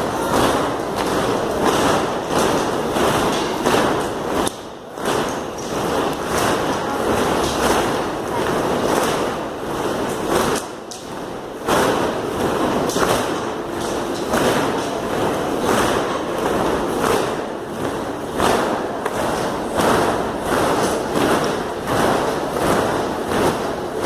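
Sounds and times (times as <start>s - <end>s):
heavy rhythmic stamping thuds: 0.0s - 24.0s.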